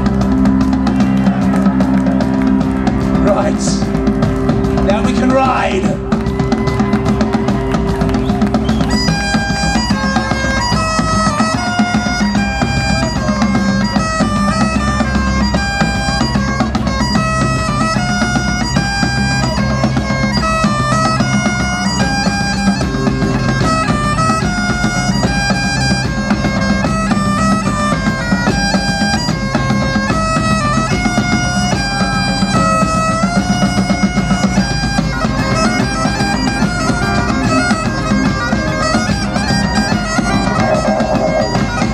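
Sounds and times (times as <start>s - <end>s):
bagpipes playing a melody: 0.0s - 41.9s
drums beating: 0.0s - 41.9s.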